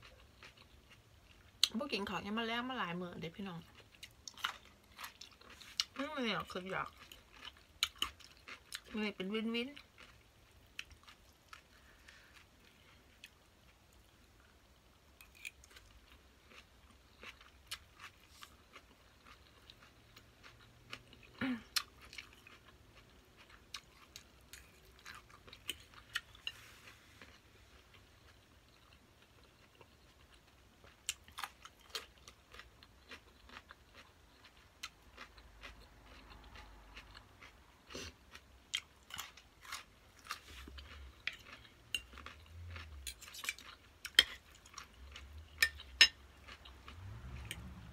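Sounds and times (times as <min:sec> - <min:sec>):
chewing and crunching: 0:00.0 - 0:02.2, 0:03.2 - 0:47.9.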